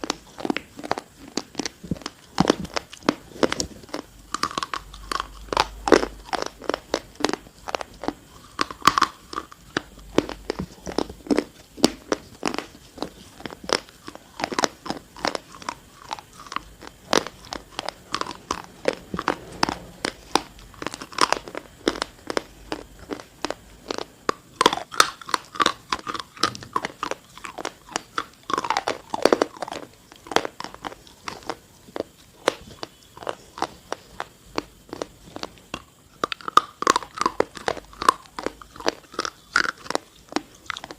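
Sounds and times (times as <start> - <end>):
crunchy chewing: 0.0 - 40.9.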